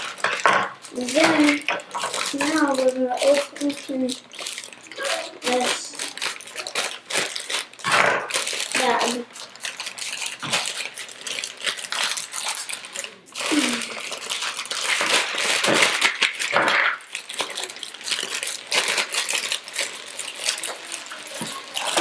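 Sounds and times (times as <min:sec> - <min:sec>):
plastic bag crinkling: 0:00.0 - 0:22.0
plastic toy pieces clicking: 0:00.0 - 0:22.0.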